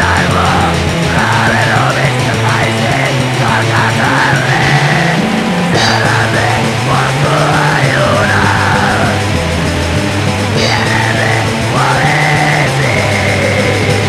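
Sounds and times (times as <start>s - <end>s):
distorted guitars: 0.0s - 14.0s
drums: 0.0s - 14.0s
harsh shrieked vocals: 0.0s - 14.0s.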